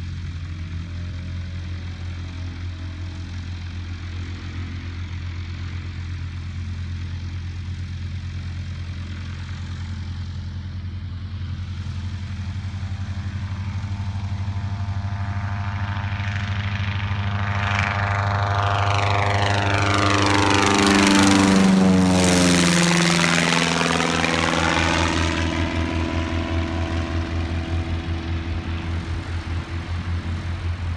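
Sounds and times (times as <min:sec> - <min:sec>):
propeller plane passing overhead: 0:00.0 - 0:30.9.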